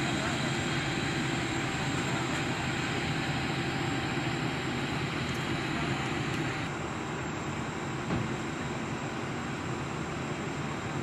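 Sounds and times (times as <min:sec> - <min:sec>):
constant hiss: 0:00.0 - 0:11.0
vehicle engines idling: 0:00.0 - 0:11.0.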